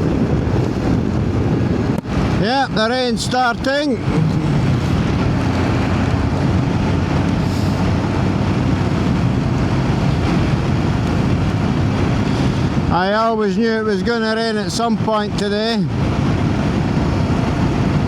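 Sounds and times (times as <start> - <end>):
motorcycle engine cruising: 0.0 - 13.2, 14.7 - 18.0
wind noise: 0.0 - 18.0.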